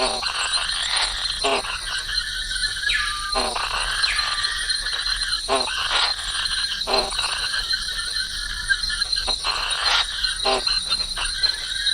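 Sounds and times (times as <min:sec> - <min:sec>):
chirring insects: 0:00.0 - 0:11.9
high insect drone: 0:00.0 - 0:11.9.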